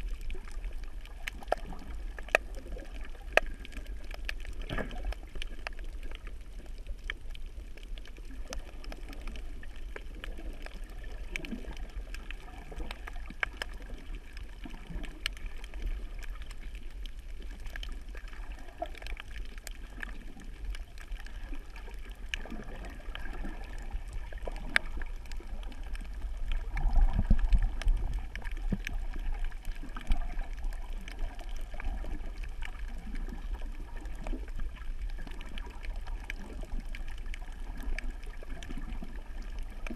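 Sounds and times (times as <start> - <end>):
water gurgling underwater: 0.0 - 39.9.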